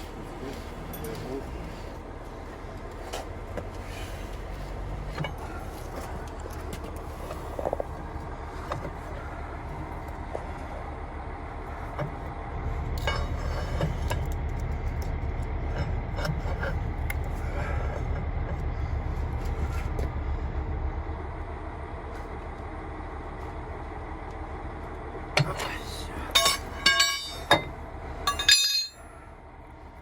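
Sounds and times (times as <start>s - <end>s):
diesel engine throbbing: 0.0s - 30.0s.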